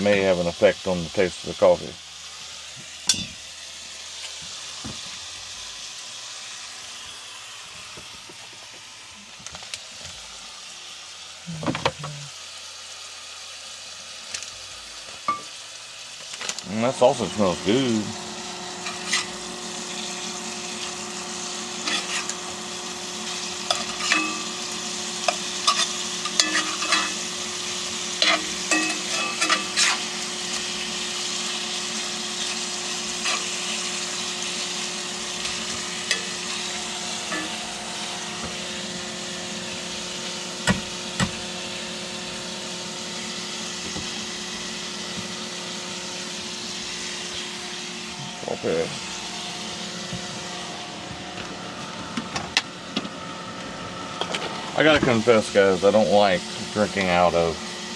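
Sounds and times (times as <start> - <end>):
sausage sizzling in a skillet: 0.0 - 11.6, 12.2 - 51.0, 52.8 - 57.9.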